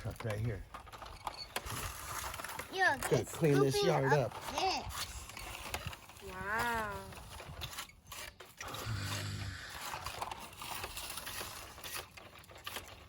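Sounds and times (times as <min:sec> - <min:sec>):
toy excavator scraping dirt: 0:00.0 - 0:13.0.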